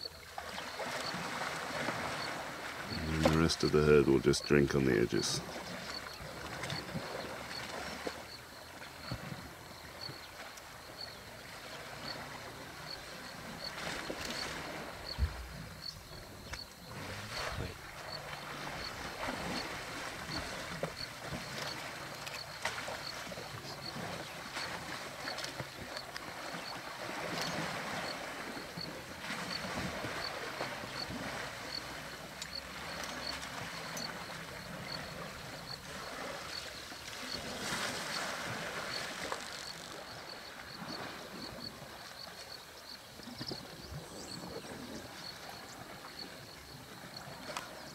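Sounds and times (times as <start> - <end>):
water splashing and sloshing: 0.0 - 47.9.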